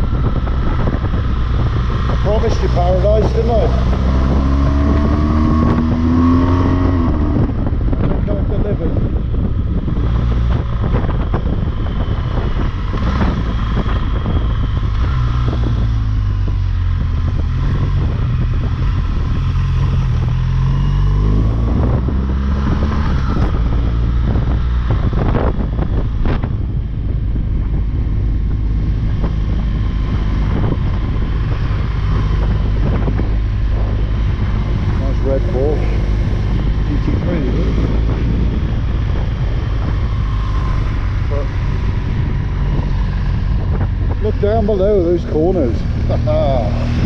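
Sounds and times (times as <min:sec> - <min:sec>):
motorcycle engine revving: 0:00.0 - 0:47.0
wind rushing over microphone: 0:00.0 - 0:47.0.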